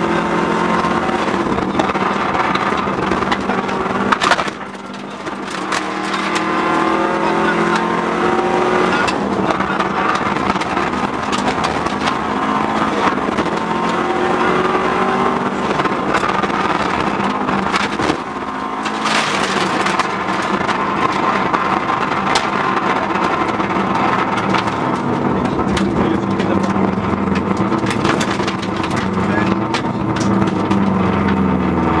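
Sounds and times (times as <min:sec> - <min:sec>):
loud road noise: 0:00.0 - 0:32.0
rally car engine under load: 0:00.0 - 0:32.0
sharp clicks and knocks: 0:00.8 - 0:06.7, 0:09.0 - 0:14.2, 0:15.3 - 0:31.5.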